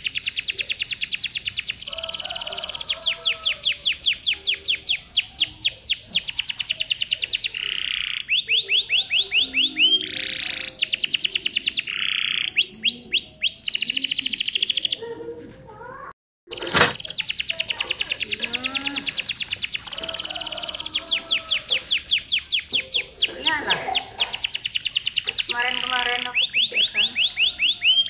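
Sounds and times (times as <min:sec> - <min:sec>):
canary singing: 0:00.0 - 0:15.3, 0:16.5 - 0:28.0.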